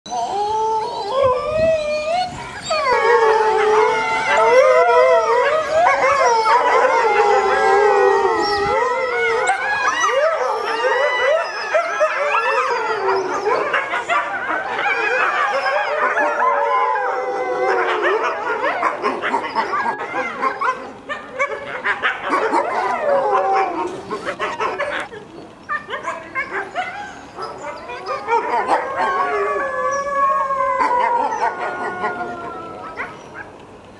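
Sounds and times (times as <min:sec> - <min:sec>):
wolves howling in chorus: 0:00.1 - 0:33.6.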